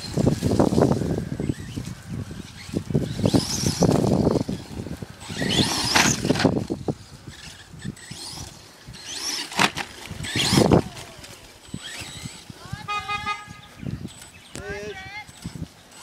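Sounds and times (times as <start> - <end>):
electric motor whining: 0.0 - 16.0
tyre noise on ground: 0.0 - 16.0.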